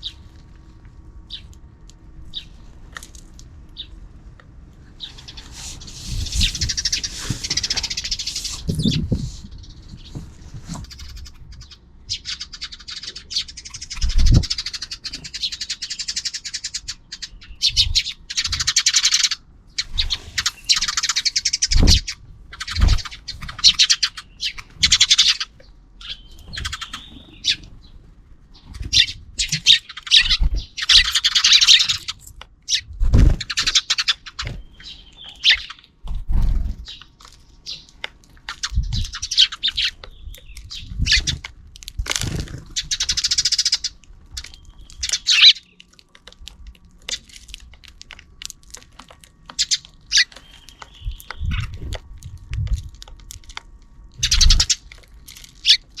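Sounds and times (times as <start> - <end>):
sparrows chirping: 0.0 - 0.4, 1.2 - 1.6, 2.2 - 2.7, 3.7 - 4.0, 4.9 - 41.5, 42.3 - 45.9, 49.4 - 52.7, 54.2 - 55.0, 55.6 - 56.0.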